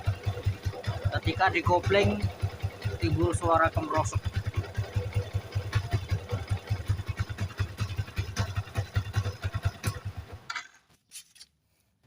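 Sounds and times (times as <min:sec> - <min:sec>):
motorcycle engine idling: 0:00.0 - 0:10.8
clutch rattling: 0:00.0 - 0:10.9.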